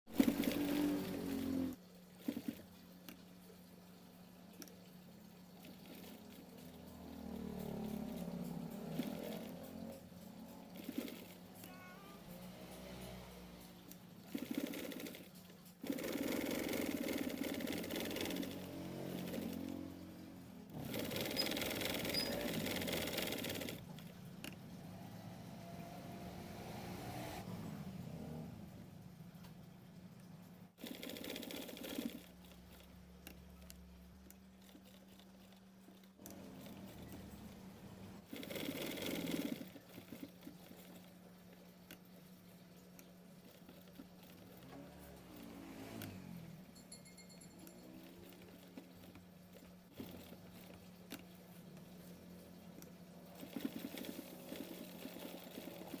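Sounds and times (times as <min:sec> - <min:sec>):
low motor hum: 0:00.0 - 0:14.7, 0:15.3 - 0:30.8, 0:39.2 - 0:56.0
sewing machine stitching: 0:00.1 - 0:03.2, 0:05.5 - 0:28.4, 0:30.8 - 0:56.0.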